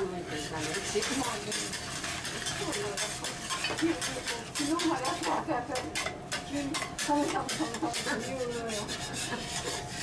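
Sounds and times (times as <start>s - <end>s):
metal spatulas scraping griddle: 0.0s - 10.0s.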